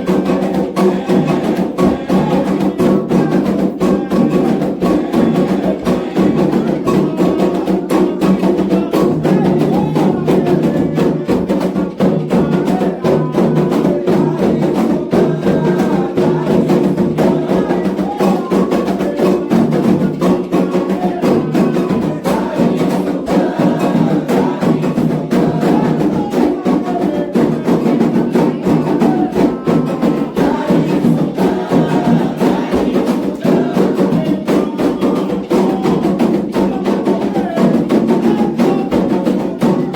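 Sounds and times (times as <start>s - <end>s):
group singing: 0.0s - 39.9s
hand drums playing: 0.0s - 39.9s.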